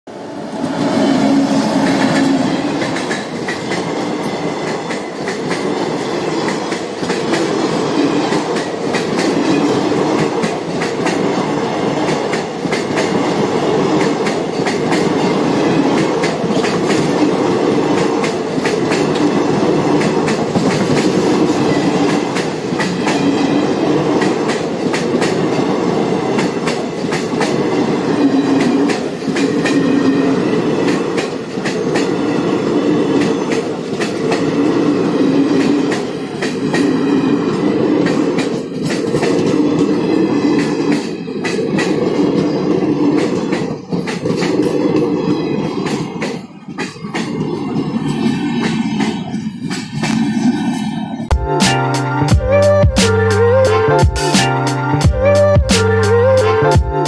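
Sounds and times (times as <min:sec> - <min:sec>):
train passing at speed: 0:00.0 - 0:52.7.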